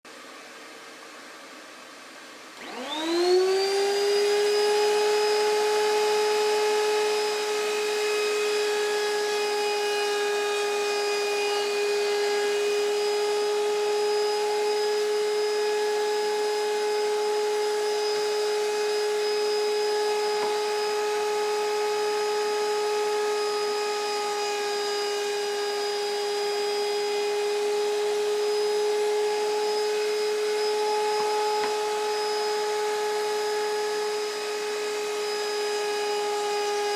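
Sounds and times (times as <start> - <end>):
router motor whining: 2.6 - 36.9.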